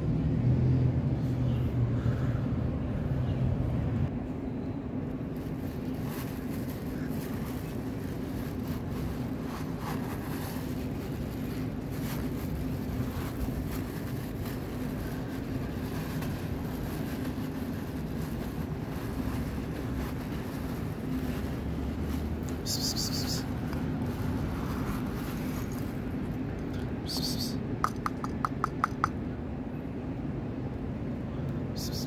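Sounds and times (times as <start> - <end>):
low hum and rumble: 0.0 - 32.0.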